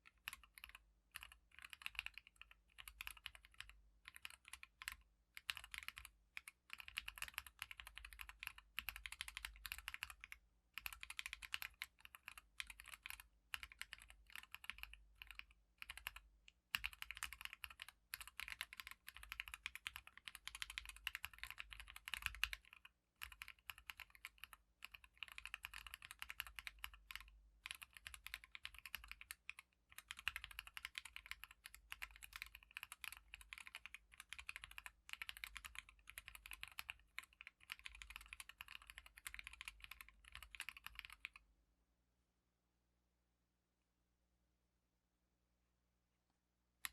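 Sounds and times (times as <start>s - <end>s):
fast typing on mechanical keyboard: 0.0s - 41.4s.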